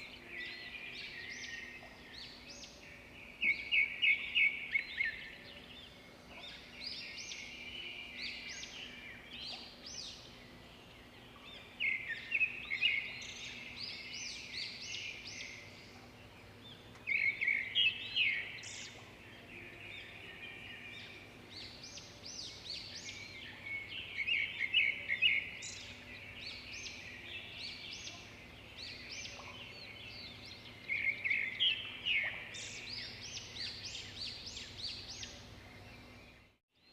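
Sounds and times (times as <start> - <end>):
birds chirping and calling: 0.0 - 36.4
faint background noise: 0.0 - 36.9.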